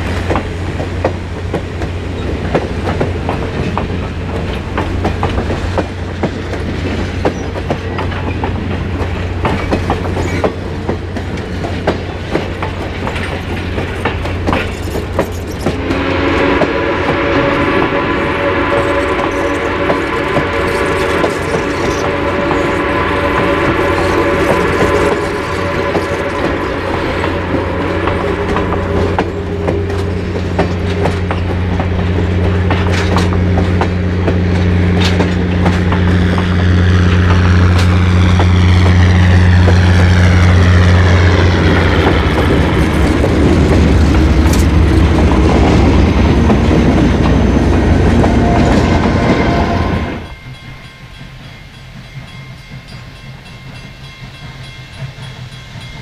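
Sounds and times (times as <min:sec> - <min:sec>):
diesel locomotive engines droning: 0:00.0 - 0:56.0
train wheels clicking over rail joints: 0:00.0 - 0:56.0.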